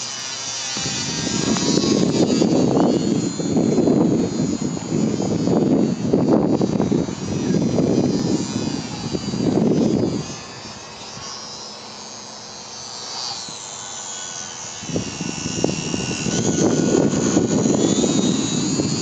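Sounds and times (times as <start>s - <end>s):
model plane motor whining: 0.0s - 19.0s
wind buffeting microphone: 0.6s - 11.4s, 14.6s - 19.0s.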